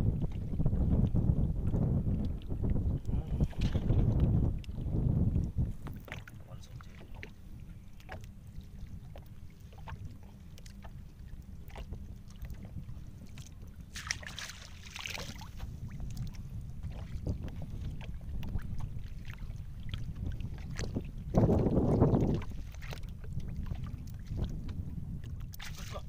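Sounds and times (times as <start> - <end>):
water lapping against boat hull: 0.0 - 26.0
wind rumbling on microphone: 0.0 - 26.0
splash and swish of water: 2.1 - 26.0.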